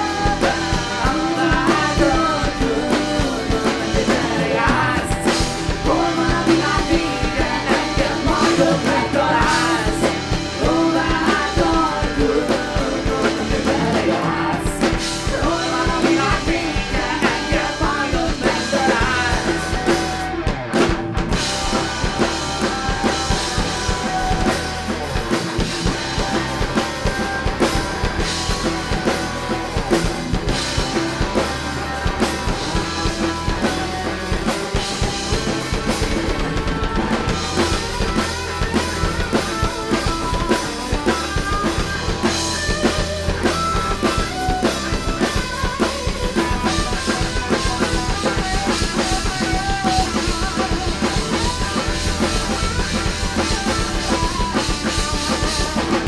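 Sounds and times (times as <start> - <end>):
bass drum and snare beat: 0.0 - 56.0
rock band playing live: 0.0 - 56.0.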